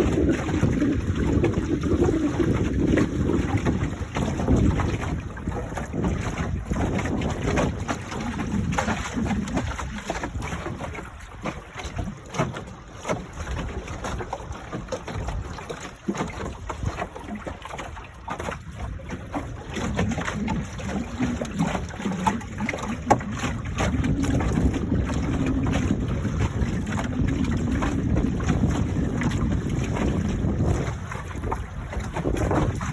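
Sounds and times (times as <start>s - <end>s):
water splashing along hull: 0.0s - 32.9s
wind buffeting microphone: 0.0s - 32.9s.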